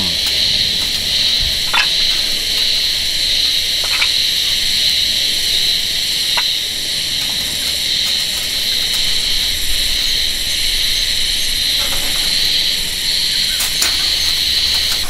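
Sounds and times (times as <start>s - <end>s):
burning wood popping: 0.0s - 15.0s
sausages sizzling on a grill: 0.0s - 15.0s.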